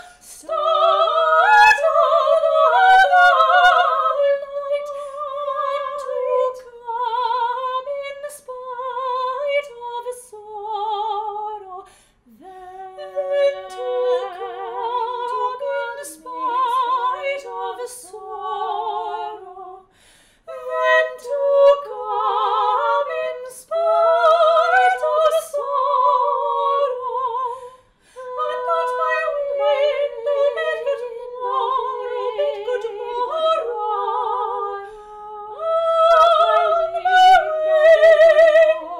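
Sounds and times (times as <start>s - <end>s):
soprano duet singing: 0.0s - 38.9s.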